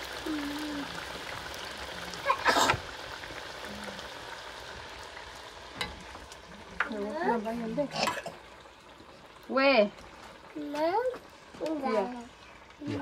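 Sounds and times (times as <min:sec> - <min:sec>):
dough deep-frying sizzle: 0:00.0 - 0:13.0.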